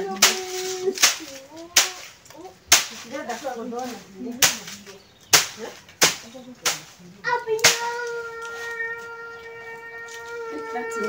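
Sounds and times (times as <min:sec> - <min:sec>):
stick beating dried plants: 0:00.0 - 0:09.2.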